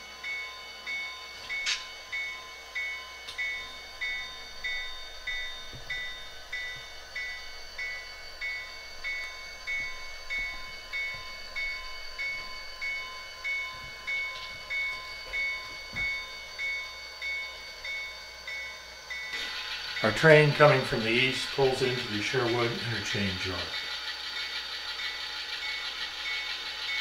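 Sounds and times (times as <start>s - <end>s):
model locomotive bell ringing: 0.0s - 27.0s.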